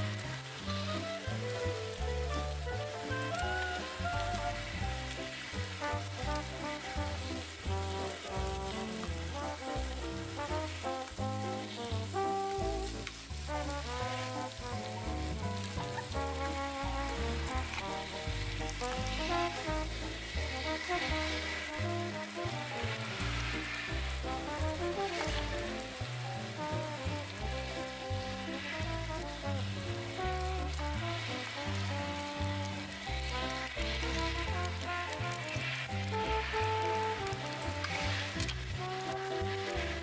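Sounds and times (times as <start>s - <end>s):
background music with bass line: 0.0s - 40.0s
food sizzling in a pan: 0.0s - 40.0s.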